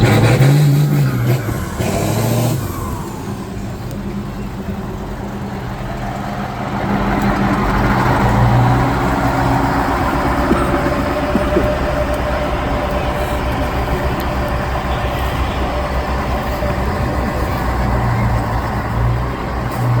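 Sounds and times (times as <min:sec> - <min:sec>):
heavy truck engine under load: 0:00.0 - 0:20.0.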